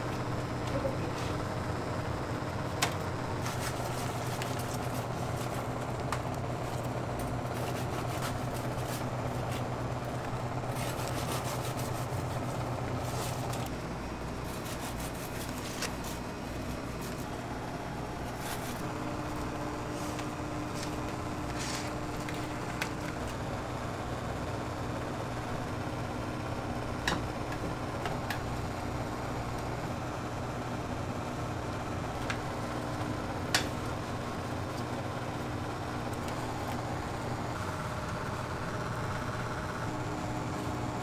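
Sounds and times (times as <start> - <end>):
kitchen machinery hum: 0.0 - 41.0.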